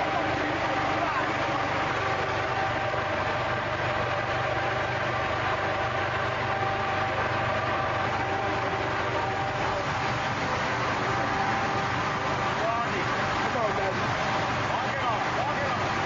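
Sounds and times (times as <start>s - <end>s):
steady whine: 0.0s - 16.0s
vehicle engine idling: 0.0s - 16.0s.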